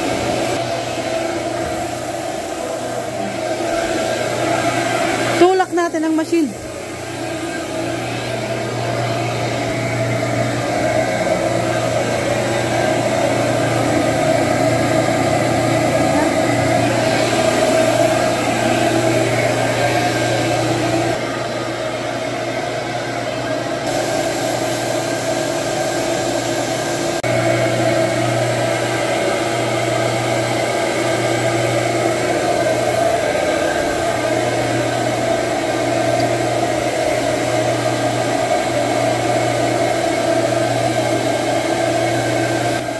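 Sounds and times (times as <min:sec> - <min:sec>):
carpet extractor motor drone: 0:00.0 - 0:42.9.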